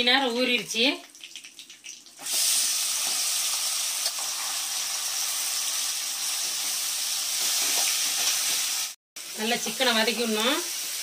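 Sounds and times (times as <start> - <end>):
chicken sizzling in hot oil: 1.1 - 11.0.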